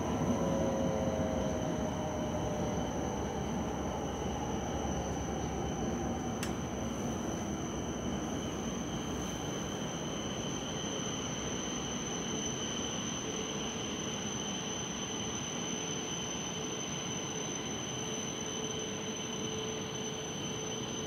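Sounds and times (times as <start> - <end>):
thin high whine: 0.0 - 21.0.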